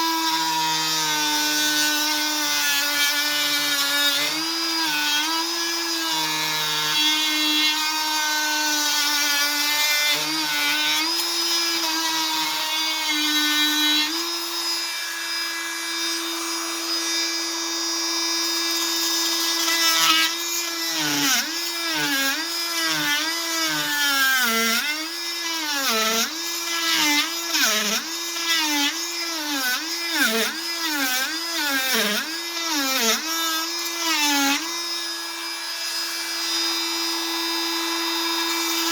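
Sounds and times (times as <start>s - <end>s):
oscillating multi-tool whining: 0.0s - 38.9s.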